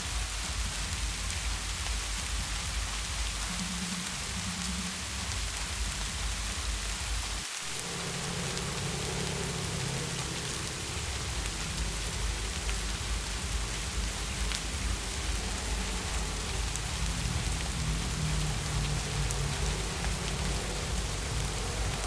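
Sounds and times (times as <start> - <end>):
heavy rain falling: 0.0 - 22.0
low rumble: 0.0 - 22.0.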